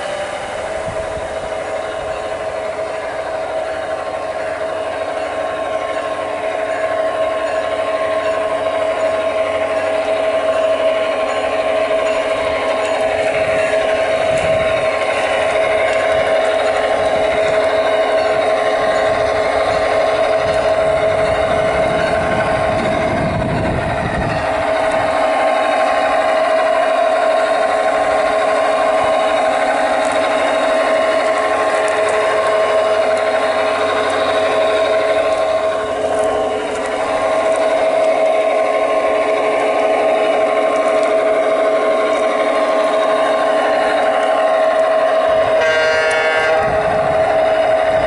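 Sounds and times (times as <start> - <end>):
model locomotive diesel engine sound: 0.0 - 48.0.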